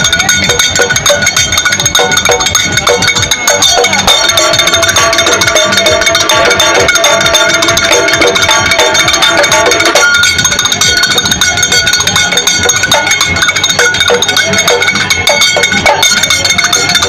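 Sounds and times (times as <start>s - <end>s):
drums beating fast rhythm: 0.0s - 17.0s
ringing hand cymbals: 0.0s - 17.0s
shehnai melody: 0.1s - 17.0s.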